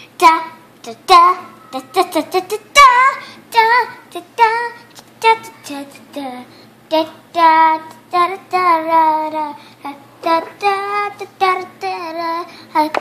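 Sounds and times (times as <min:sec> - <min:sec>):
child singing: 0:00.2 - 0:13.0.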